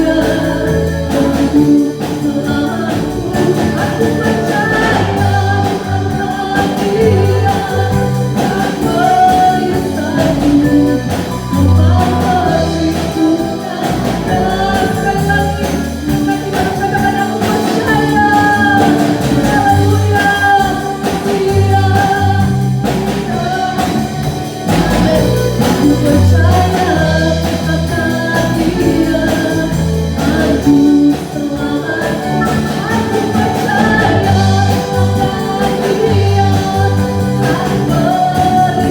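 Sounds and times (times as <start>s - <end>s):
instrumental accompaniment with bass: 0.0s - 38.9s
voices singing a worship song: 0.0s - 38.9s.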